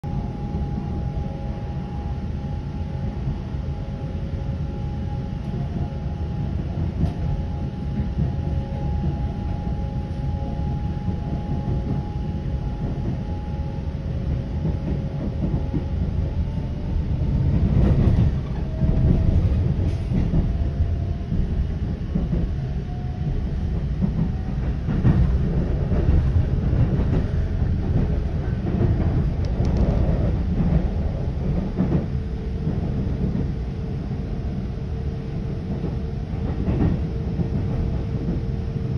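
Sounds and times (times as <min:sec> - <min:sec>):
train wheels rumbling on rail: 0:00.1 - 0:38.9.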